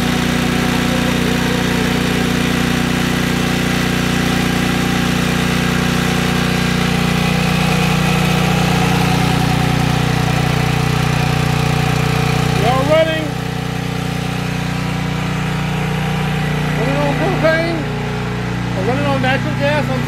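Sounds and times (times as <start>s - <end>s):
generator engine running: 0.0s - 20.0s.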